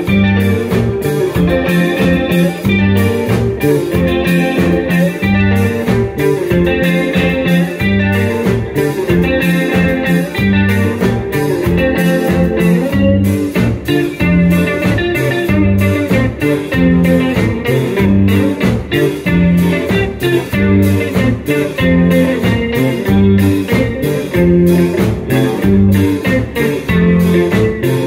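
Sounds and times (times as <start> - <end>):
drum and percussion beat: 0.0 - 28.0
electric guitar melody: 0.0 - 28.0
repeating bass line: 0.0 - 28.0.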